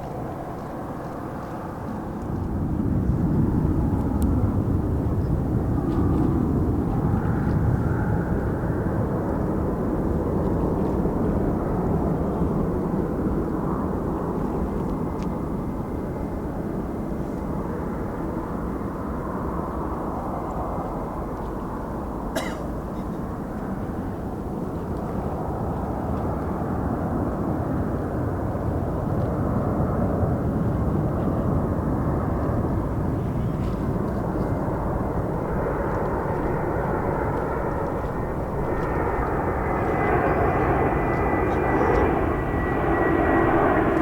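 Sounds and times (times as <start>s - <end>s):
jet airliner engine rumble: 0.0s - 44.0s.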